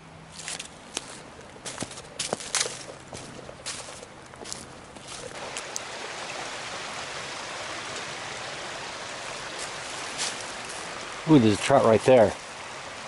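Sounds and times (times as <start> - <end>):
brook water rushing: 0.5 - 13.0.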